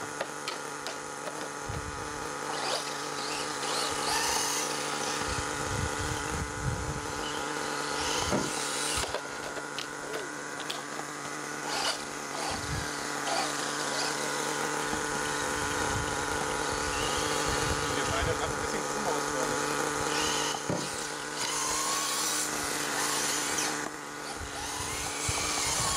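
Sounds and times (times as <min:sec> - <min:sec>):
electric rc buggy whirring: 0:00.0 - 0:25.9.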